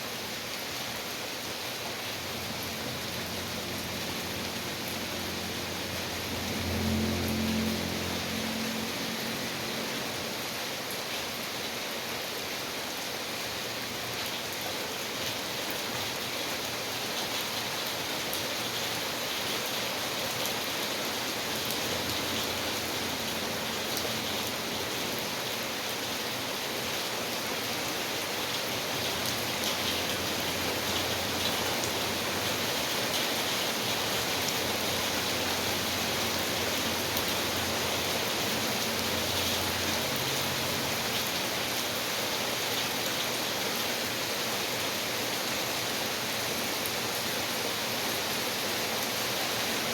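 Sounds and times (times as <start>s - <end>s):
steady rainfall: 0.0s - 49.9s.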